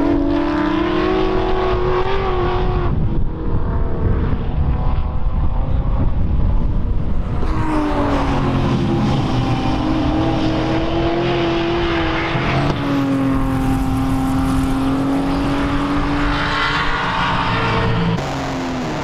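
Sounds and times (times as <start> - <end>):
racing car engines at high revs: 0.0 - 19.0.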